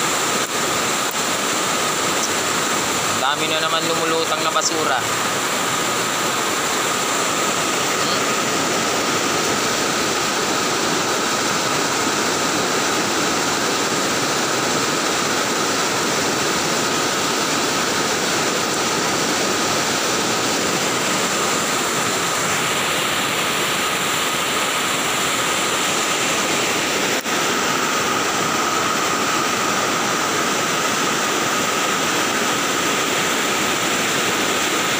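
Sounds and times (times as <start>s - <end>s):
floodwater rushing: 0.0s - 34.9s.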